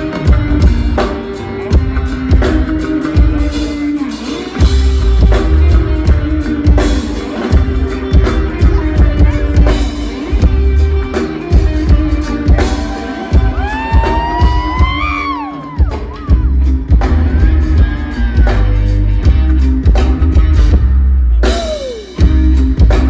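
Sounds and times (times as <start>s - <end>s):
heavy bass: 0.0s - 3.8s, 4.5s - 23.0s
drum kit beat: 0.0s - 23.0s
reggae band playing: 0.0s - 23.0s.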